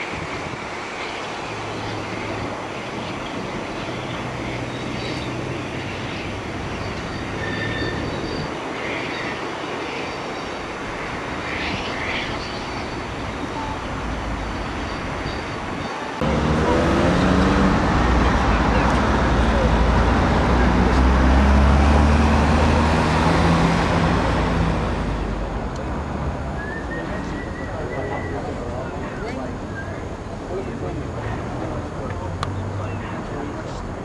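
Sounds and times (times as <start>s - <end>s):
train noise: 0.0s - 34.0s.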